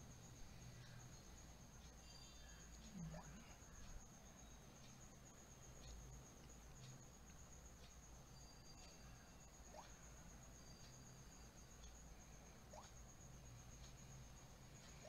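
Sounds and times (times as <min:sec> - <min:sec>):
faint high-pitched whine: 0:00.0 - 0:15.0
faint ticks: 0:00.0 - 0:15.0
steady low hum: 0:00.0 - 0:15.0.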